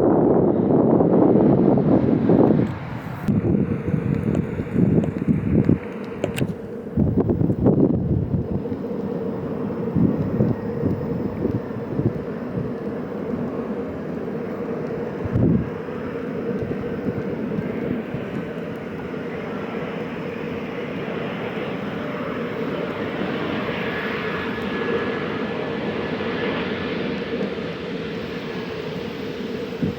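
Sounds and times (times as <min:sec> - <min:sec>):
airliner engines humming: 0:00.0 - 0:29.9
wind buffeting microphone: 0:00.0 - 0:29.9.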